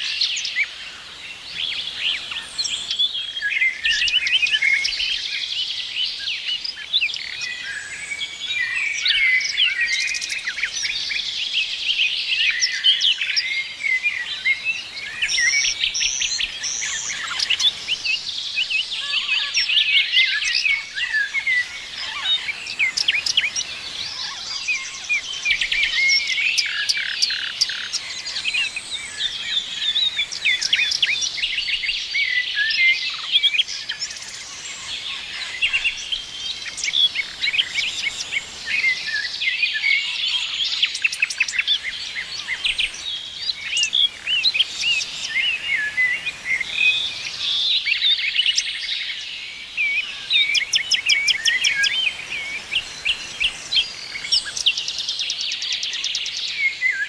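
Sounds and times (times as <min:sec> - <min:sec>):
chorus of songbirds chirping: 0:00.0 - 0:57.0.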